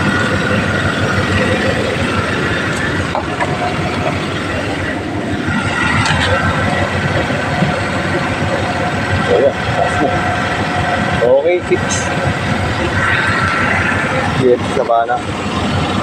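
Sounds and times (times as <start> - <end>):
van engine idling: 0.0 - 16.0.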